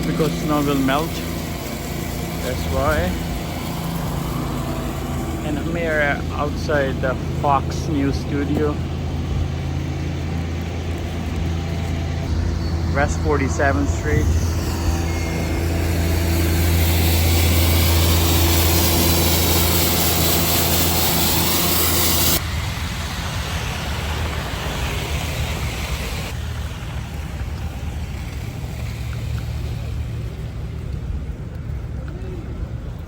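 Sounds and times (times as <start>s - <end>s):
city street traffic: 0.0s - 33.0s
vehicle engine humming with hiss: 0.0s - 33.0s.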